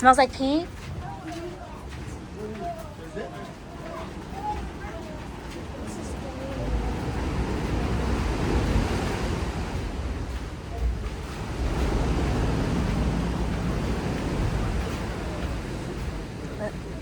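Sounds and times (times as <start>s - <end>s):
wind buffeting microphone: 0.0s - 17.0s
ocean surf washing in: 3.2s - 17.0s.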